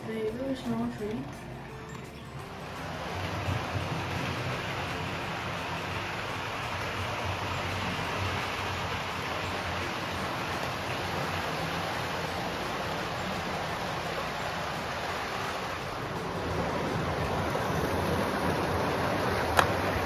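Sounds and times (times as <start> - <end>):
model train running on track: 2.5 - 20.0.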